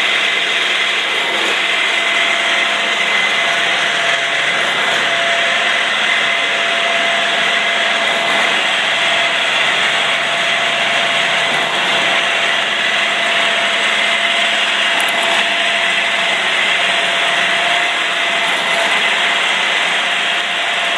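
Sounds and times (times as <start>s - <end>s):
screw machine running: 0.0s - 20.9s
steady whining tones: 0.0s - 20.9s.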